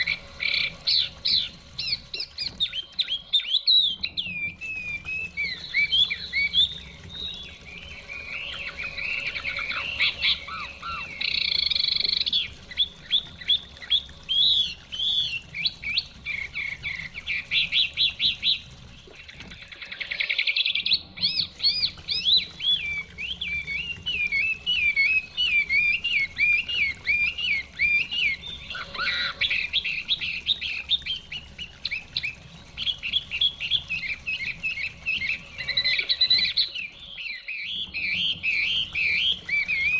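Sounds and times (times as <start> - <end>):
bird singing whistled song: 0.0 - 16.7, 19.8 - 39.9
stream water running: 0.0 - 39.9.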